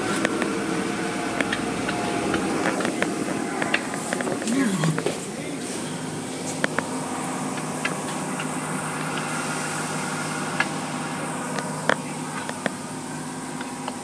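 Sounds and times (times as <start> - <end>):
car wash spray hissing: 0.0 - 14.0
low hum: 0.0 - 14.0.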